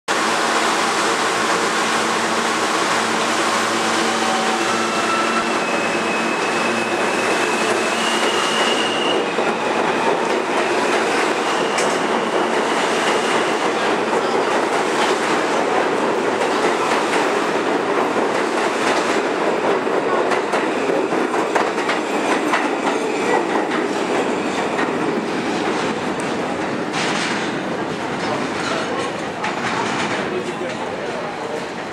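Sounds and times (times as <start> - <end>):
subway cars running over rails: 0.1 - 31.9.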